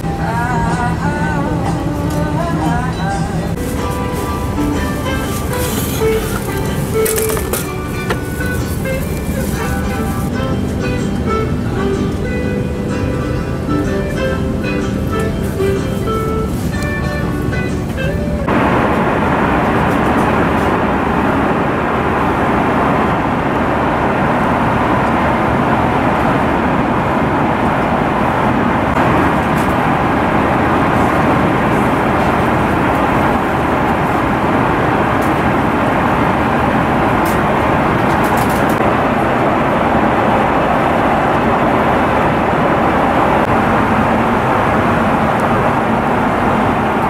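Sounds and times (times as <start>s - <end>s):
jet engines and rushing air: 0.0s - 47.0s.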